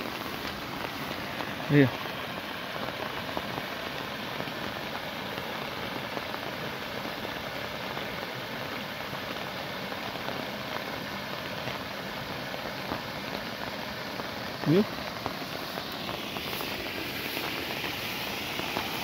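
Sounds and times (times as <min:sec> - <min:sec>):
water pouring into a pool: 0:00.0 - 0:19.0.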